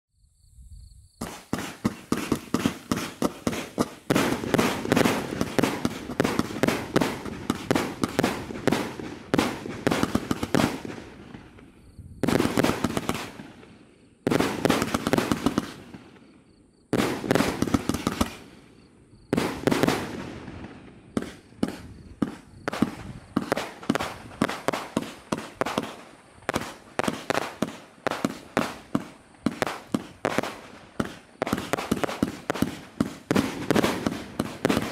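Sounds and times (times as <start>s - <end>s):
firework battery firing: 1.2s - 16.3s, 16.9s - 18.6s, 19.3s - 34.9s.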